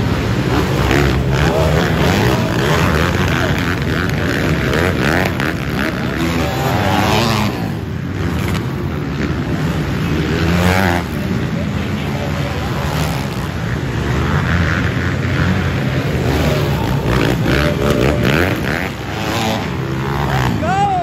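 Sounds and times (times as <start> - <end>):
pit bike engines revving: 0.0 - 21.0.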